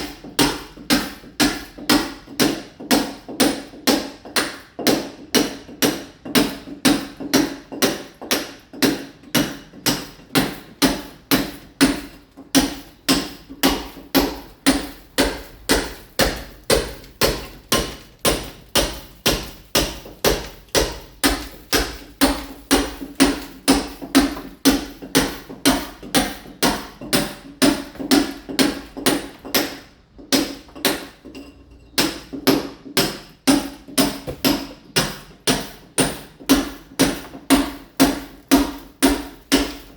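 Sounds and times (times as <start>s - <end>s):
hammer striking masonry wall: 0.0s - 39.9s.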